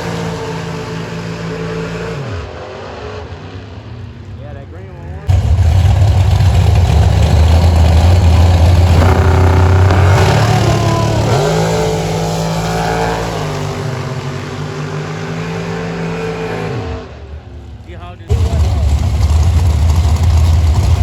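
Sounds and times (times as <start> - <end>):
drag racing car accelerating: 0.0 - 21.0.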